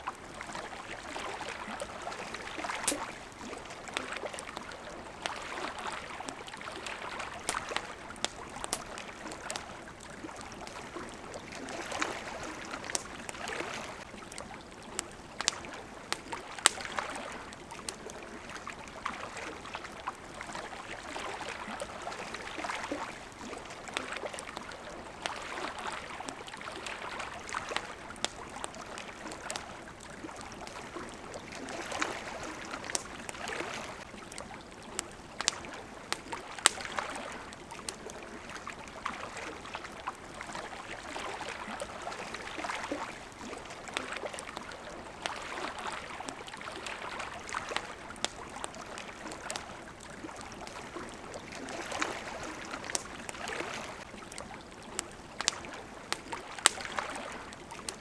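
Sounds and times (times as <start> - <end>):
campfire crackling and popping: 0.0 - 58.0
water lapping: 0.0 - 58.0.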